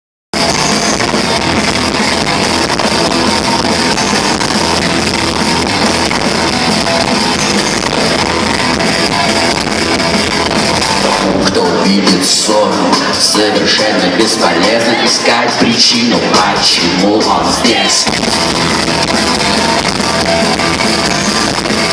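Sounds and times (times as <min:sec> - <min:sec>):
rock band playing live: 0:00.3 - 0:21.9.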